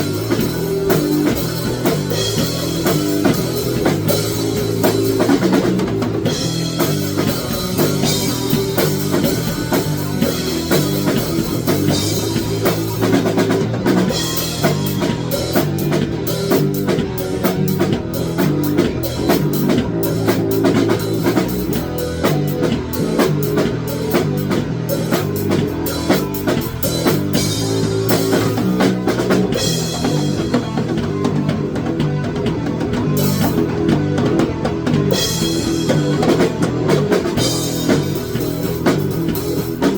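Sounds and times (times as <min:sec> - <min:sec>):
bass guitar: 0:00.0 - 0:39.9
drum kit: 0:00.0 - 0:39.9
electric guitar: 0:00.0 - 0:39.9
rock music: 0:00.0 - 0:39.9.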